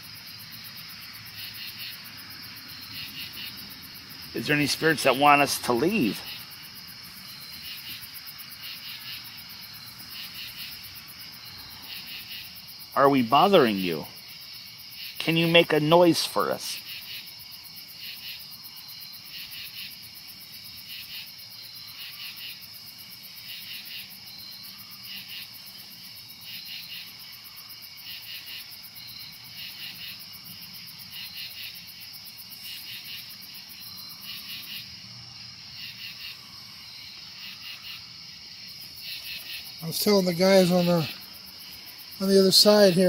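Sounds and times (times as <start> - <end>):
cricket chirps: 0.0 - 43.0
insects trilling: 0.0 - 43.0.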